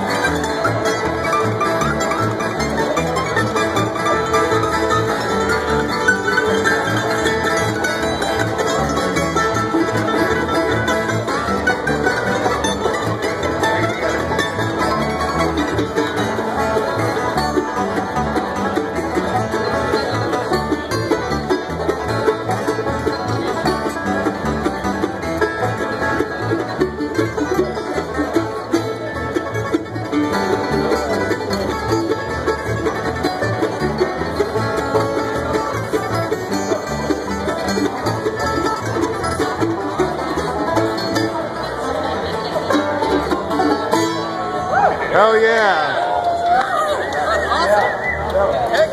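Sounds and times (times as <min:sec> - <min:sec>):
plucked upright bass: 0:00.0 - 0:45.5
acoustic guitars: 0:00.0 - 0:46.4
mandolin: 0:00.0 - 0:48.9.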